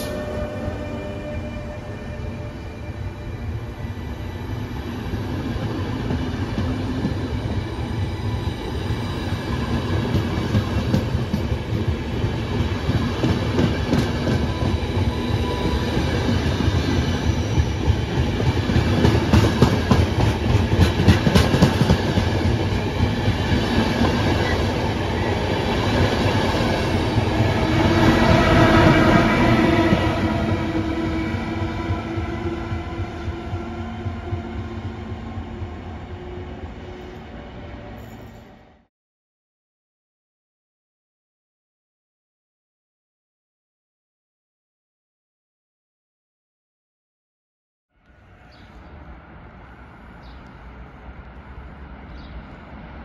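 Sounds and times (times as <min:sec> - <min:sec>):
train rumbling past: 0:00.0 - 0:38.9, 0:48.0 - 0:53.0.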